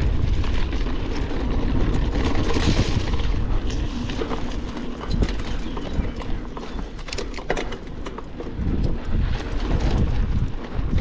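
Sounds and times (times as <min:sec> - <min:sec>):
constant low rumble: 0:00.0 - 0:11.0
mountain bike clattering: 0:00.0 - 0:11.0.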